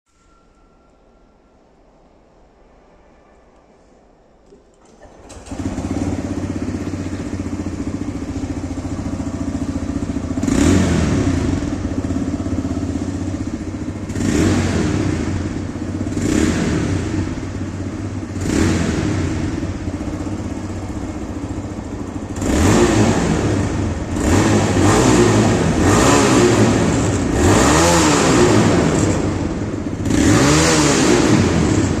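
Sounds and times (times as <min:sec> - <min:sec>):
motorcycle engine starting: 0:04.7 - 0:32.0
motorcycle engine revving: 0:05.0 - 0:32.0.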